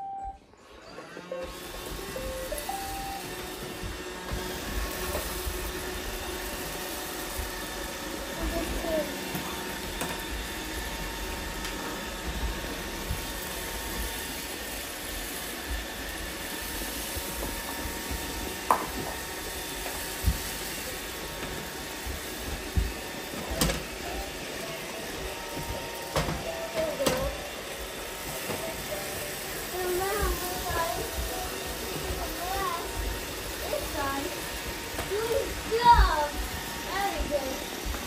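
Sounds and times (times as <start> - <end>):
robot vacuums humming: 0.0 - 38.0.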